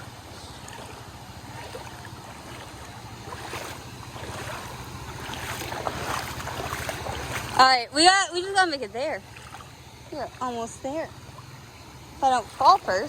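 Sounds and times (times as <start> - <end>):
creek water splashing: 0.0 - 13.0.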